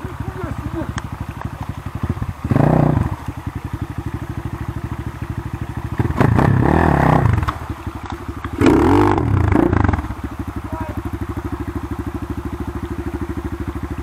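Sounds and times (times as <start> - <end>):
dirt bike engine chugging and revving: 0.0 - 14.0.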